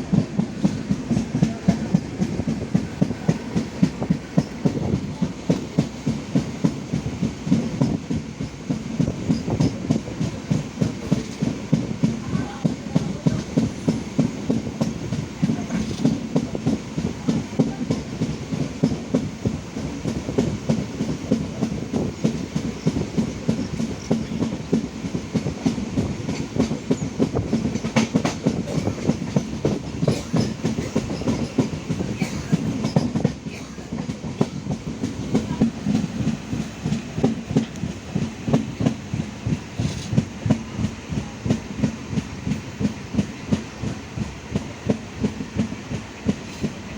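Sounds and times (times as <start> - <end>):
train low rumble: 0.0 - 46.9
train wheels clicking over rail joints: 0.0 - 46.9.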